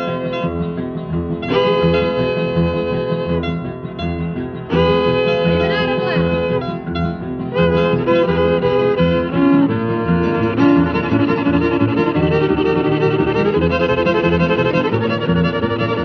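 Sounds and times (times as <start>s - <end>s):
fiddle playing lively melody: 0.0s - 16.0s.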